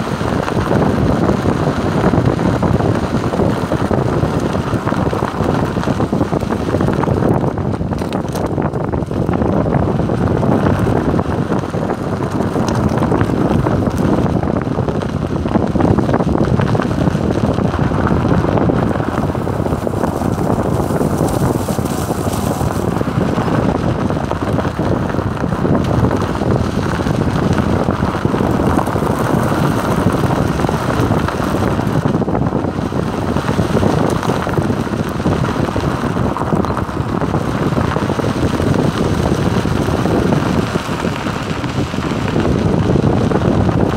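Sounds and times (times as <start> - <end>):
car tyre and engine noise: 0.0 - 43.9
wind buffeting microphone: 0.0 - 43.9.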